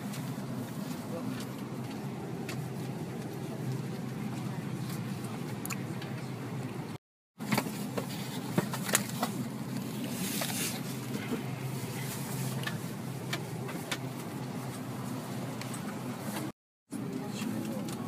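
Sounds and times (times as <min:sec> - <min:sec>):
airliner cabin hum: 0:00.0 - 0:18.0.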